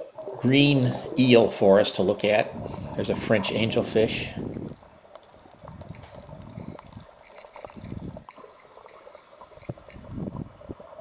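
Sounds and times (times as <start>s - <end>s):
water sloshing and gurgling: 0.0s - 11.0s.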